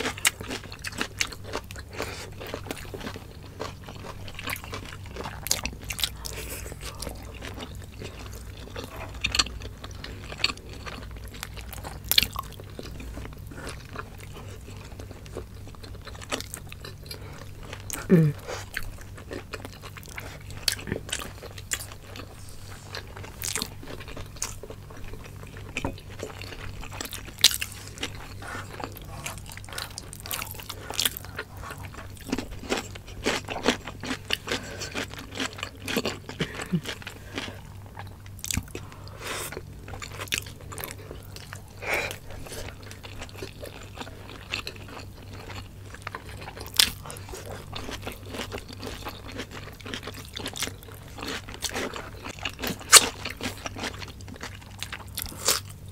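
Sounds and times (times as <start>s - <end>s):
chewing and crunching: 0.0s - 55.9s.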